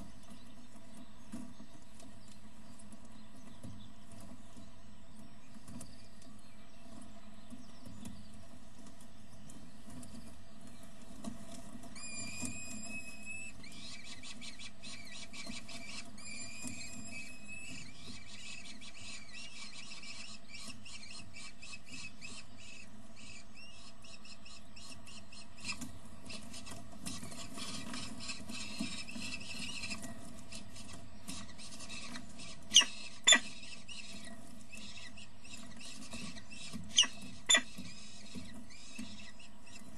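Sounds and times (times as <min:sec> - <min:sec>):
electrical hum: 0:00.0 - 0:39.9
falcon chicks cheeping: 0:00.0 - 0:39.9.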